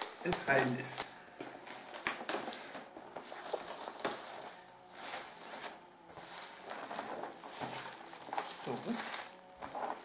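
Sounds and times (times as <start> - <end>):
plastic film crinkling: 0.0 - 10.0.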